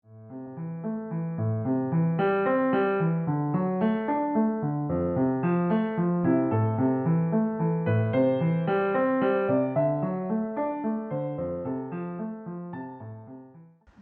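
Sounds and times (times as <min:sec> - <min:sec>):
piano arpeggios: 0:00.0 - 0:13.7.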